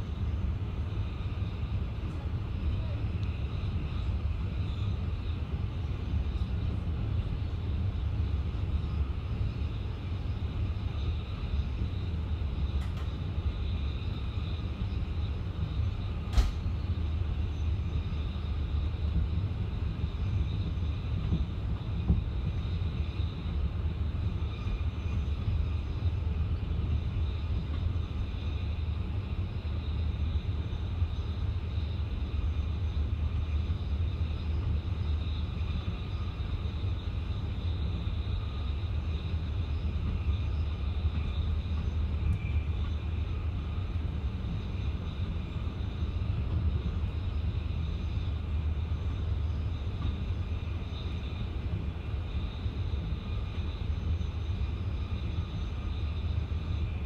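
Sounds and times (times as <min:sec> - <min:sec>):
faint high hum: 0:00.0 - 0:57.0
train carriage rumble: 0:00.0 - 0:57.0.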